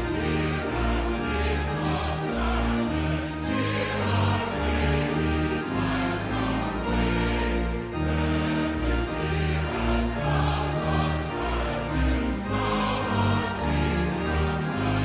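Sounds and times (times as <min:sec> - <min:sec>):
choir singing a hymn: 0:00.0 - 0:15.0
orchestral accompaniment: 0:00.0 - 0:15.0.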